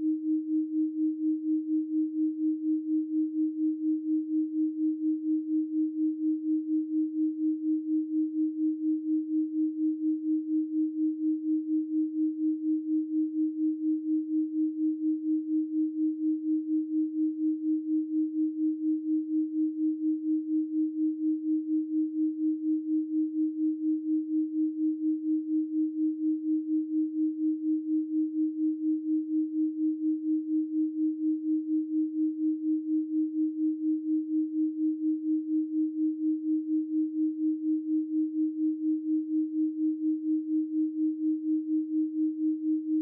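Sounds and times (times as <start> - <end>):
pulsing sine tone: 0.0 - 43.0.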